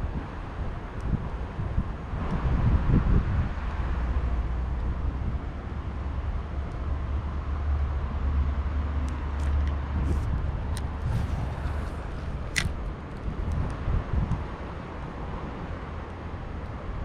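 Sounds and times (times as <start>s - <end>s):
low outdoor rumble by river: 0.0s - 17.0s.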